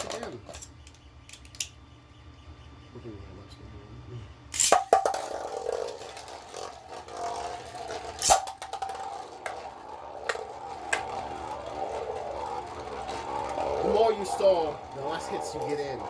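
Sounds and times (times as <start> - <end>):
spinning tops clacking together: 0.0 - 1.7, 4.5 - 16.0
spinning tops whirring: 0.0 - 2.0, 4.5 - 16.0.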